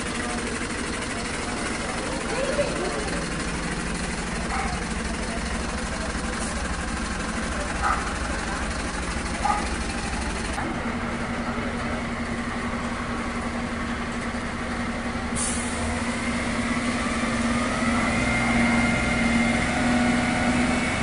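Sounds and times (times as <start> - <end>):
fire engine idling: 0.0 - 21.0.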